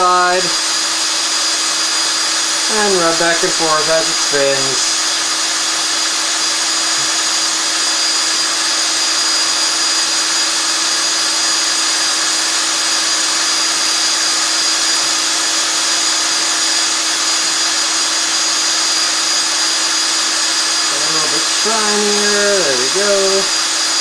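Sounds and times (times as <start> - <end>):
electric drill whining: 0.0 - 24.0.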